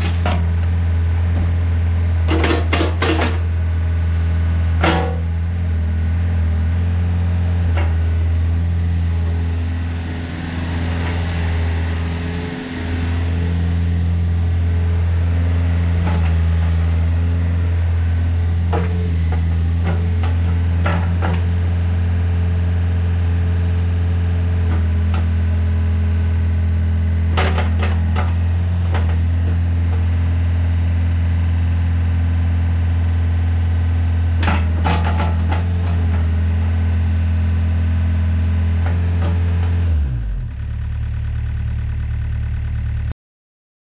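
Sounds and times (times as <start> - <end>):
excavator diesel engine humming: 0.0 - 43.1.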